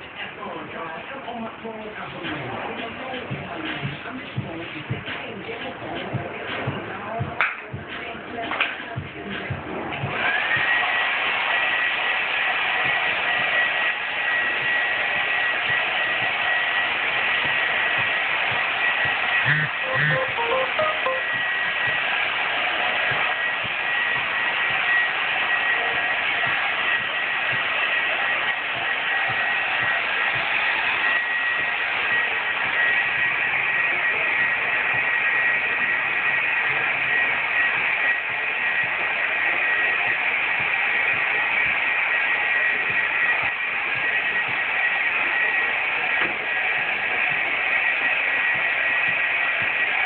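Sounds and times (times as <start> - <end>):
hair dryer blowing: 8.3 - 50.0.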